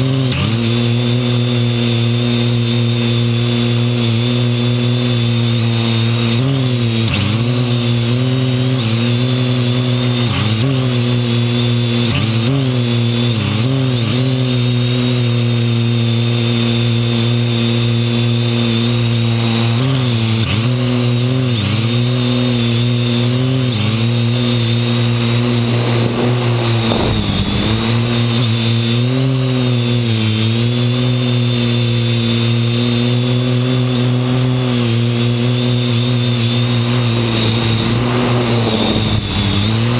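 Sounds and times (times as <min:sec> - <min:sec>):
quadcopter propellers humming: 0:00.0 - 0:39.9.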